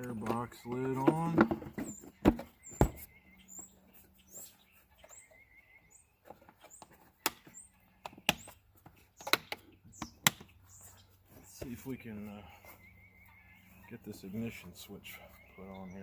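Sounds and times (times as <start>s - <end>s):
faint bird chirps: 1.8s - 16.0s.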